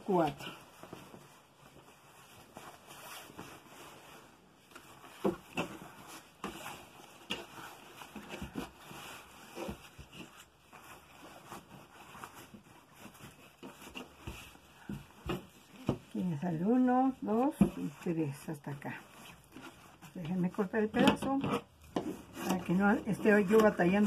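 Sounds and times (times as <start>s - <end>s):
cloth rustling on a table: 0.0s - 24.0s.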